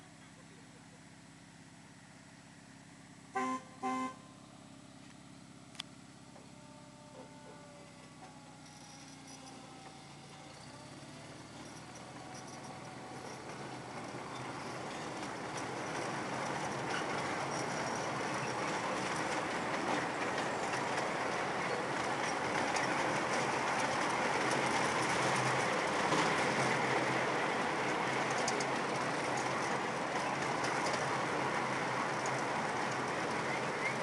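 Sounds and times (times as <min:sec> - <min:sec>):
miniature train wheels rumbling: 0:06.5 - 0:34.0.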